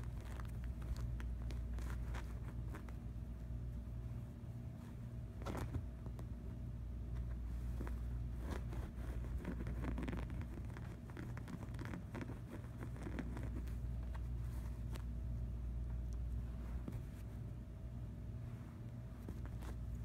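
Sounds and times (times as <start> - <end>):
kitten claws scratching fabric: 0.0 - 4.0, 4.6 - 6.4, 7.1 - 17.6, 18.6 - 20.0
hand brushing cushion: 0.0 - 6.5, 7.1 - 20.0
steady low hum: 0.0 - 20.0.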